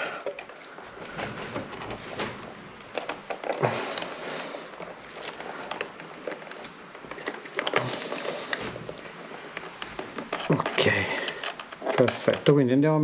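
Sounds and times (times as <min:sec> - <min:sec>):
handling clicks and rustling: 0:00.0 - 0:13.0.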